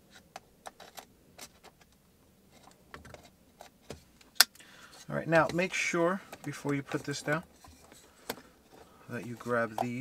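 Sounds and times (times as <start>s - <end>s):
handling noise: 0.0s - 10.0s.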